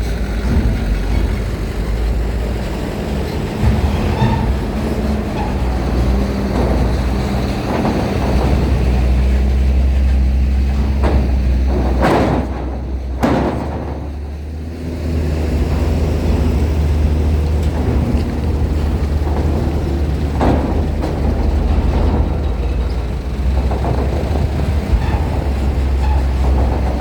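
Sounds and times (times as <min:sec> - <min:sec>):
heavy vehicle engines rumbling: 0:00.0 - 0:27.0
sharp knocks: 0:03.5 - 0:27.0.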